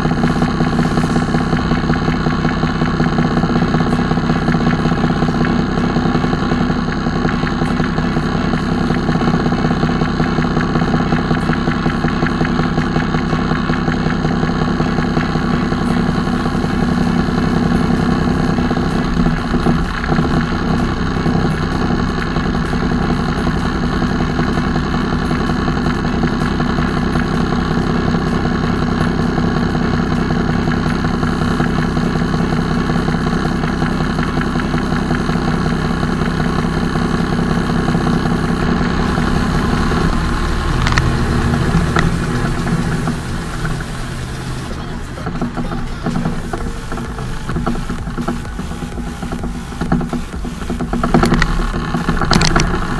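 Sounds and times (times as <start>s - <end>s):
diesel truck engine idling: 0.0s - 52.9s.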